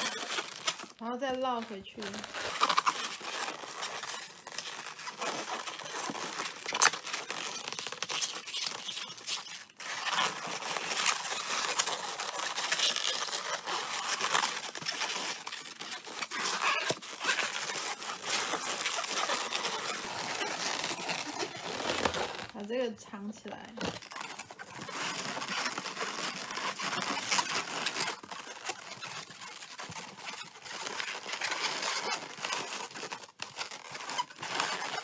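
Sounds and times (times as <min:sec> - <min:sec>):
balloons squeaking and rubbing: 0:00.0 - 0:35.0.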